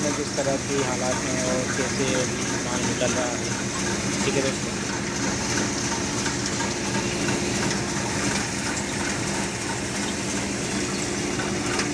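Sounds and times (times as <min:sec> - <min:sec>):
threshing machine humming: 0:00.0 - 0:11.9.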